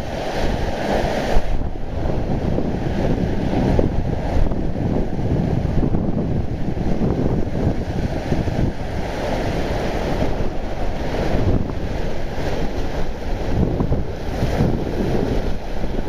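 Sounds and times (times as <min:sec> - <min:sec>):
waves breaking on rocks: 0:00.0 - 0:16.0
wind buffeting microphone: 0:00.0 - 0:16.0.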